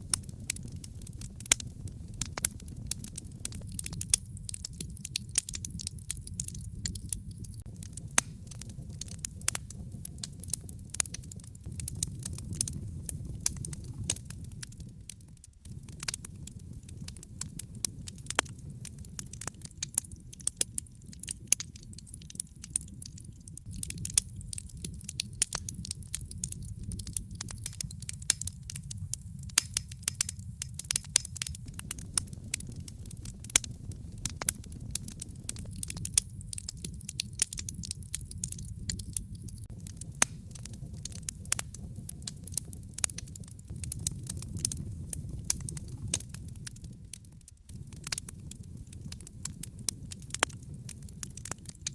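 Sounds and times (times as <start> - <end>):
low steady rumble: 0.0 - 20.3, 23.6 - 49.8
wood fire crackling and popping: 0.0 - 51.9.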